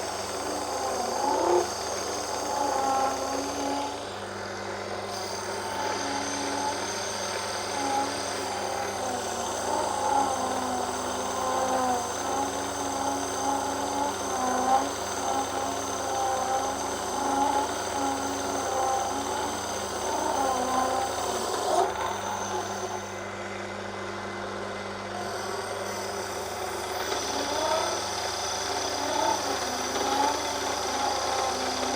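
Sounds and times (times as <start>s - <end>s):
cutting tool cutting brass: 0.0s - 4.2s, 4.9s - 23.1s, 25.2s - 31.9s
lathe motor whine: 0.0s - 31.9s.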